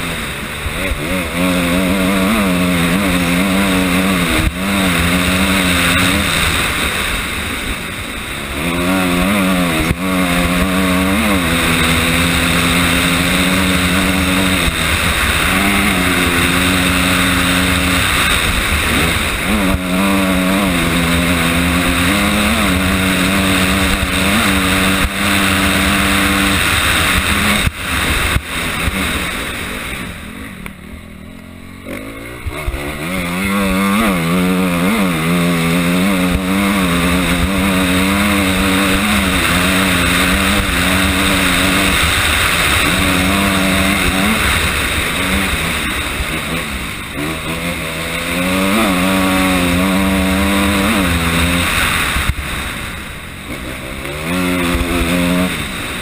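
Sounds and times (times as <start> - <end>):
constant rushing noise: 0.0 - 56.0
motorcycle engine revving: 0.0 - 56.0.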